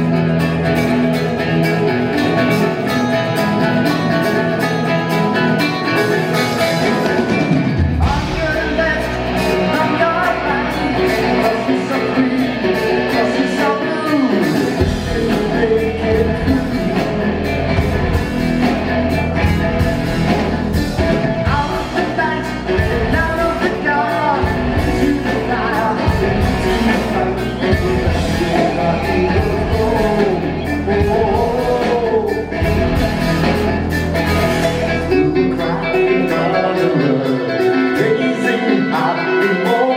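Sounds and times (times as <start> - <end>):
person singing: 0.0 - 33.6, 34.2 - 39.9
live rock band playing loudly: 0.0 - 39.9.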